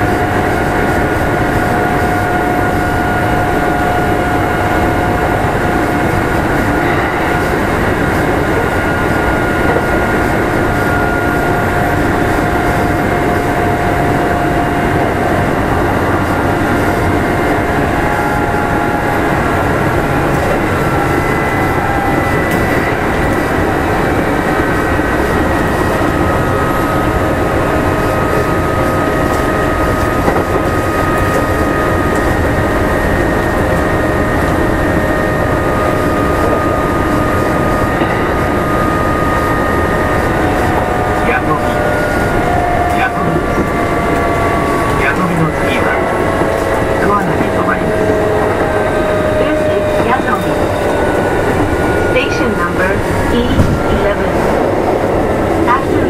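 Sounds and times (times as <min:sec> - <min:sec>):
traction motors whining: 0:00.0 - 0:56.0
train wheels rumbling on rails: 0:00.0 - 0:56.0.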